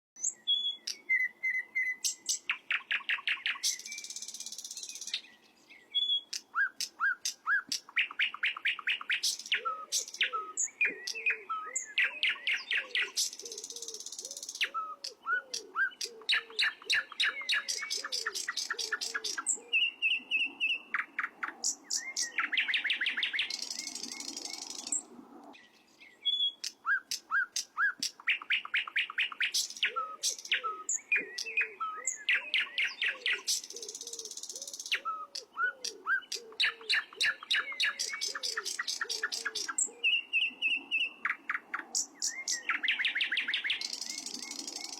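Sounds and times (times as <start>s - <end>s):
songbird singing: 0.2s - 44.9s.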